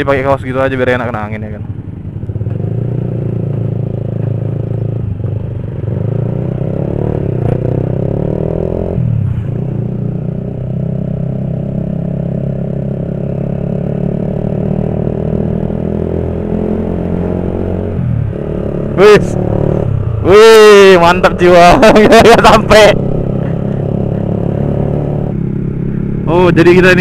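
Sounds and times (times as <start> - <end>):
motorcycle engine running: 0.1 - 27.0.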